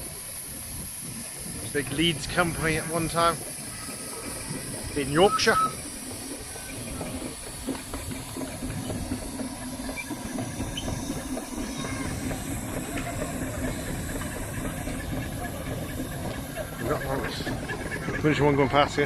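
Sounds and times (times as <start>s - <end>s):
faint low engine drone: 0.0s - 19.0s
steam hissing: 0.0s - 19.0s.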